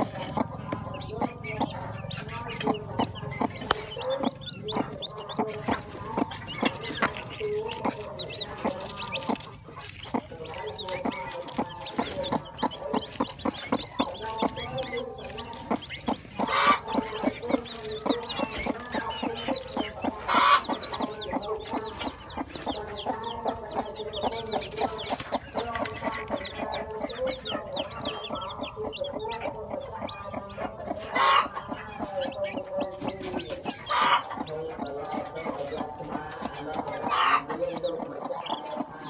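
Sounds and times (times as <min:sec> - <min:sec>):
chicks peeping: 0:00.0 - 0:39.0
hen clucking: 0:00.0 - 0:39.0.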